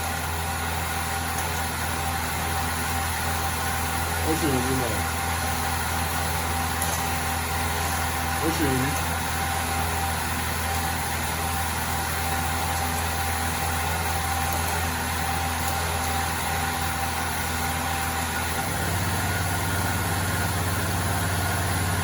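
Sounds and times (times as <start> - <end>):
generator engine humming: 0.0 - 22.0.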